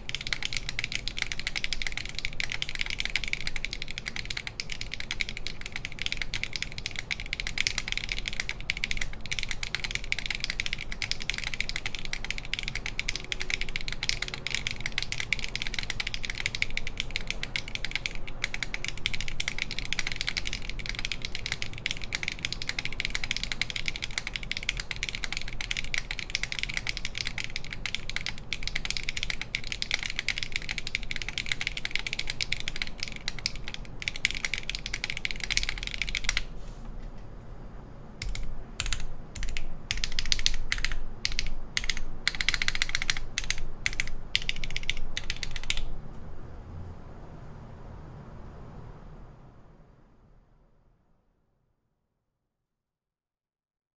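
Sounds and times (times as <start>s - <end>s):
mechanical keyboard typing: 0.0s - 36.6s, 38.2s - 46.0s.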